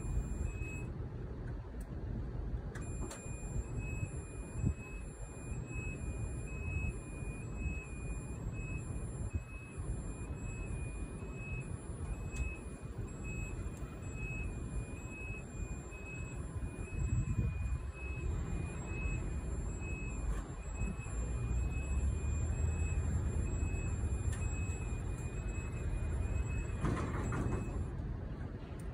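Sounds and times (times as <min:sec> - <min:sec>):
pulsing descent alarm tone: 0:02.8 - 0:27.8.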